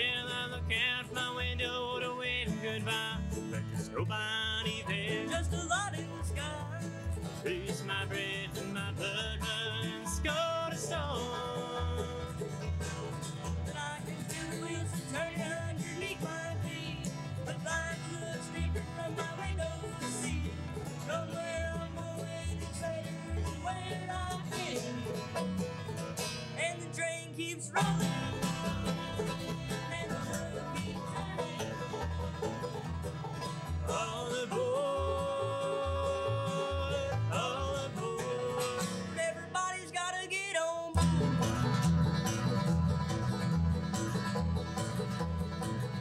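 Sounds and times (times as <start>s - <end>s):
bluegrass band playing: 0.0s - 40.4s, 41.0s - 46.0s.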